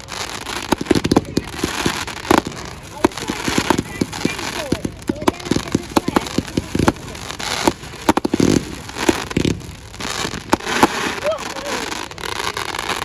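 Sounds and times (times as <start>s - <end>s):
fireworks bangs and pops: 0.0s - 13.0s
fireworks crackle hiss: 0.0s - 13.0s.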